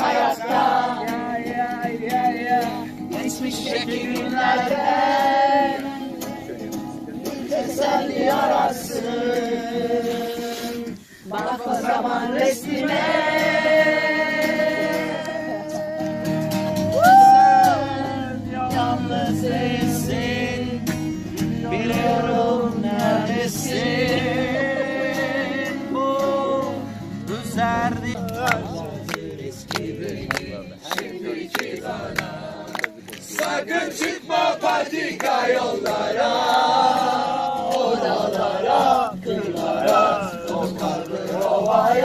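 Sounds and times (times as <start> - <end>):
acoustic guitar strumming: 0.0 - 42.0
group singing together: 0.0 - 42.0.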